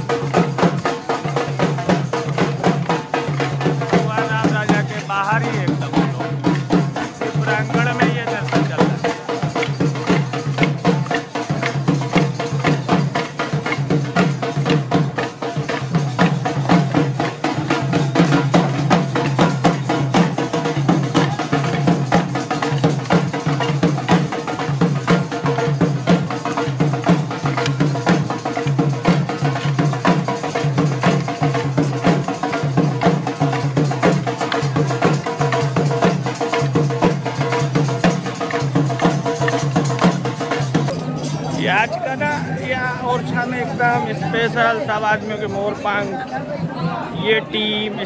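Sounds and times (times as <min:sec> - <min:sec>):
drums beaten in fast rhythm: 0:00.0 - 0:48.0.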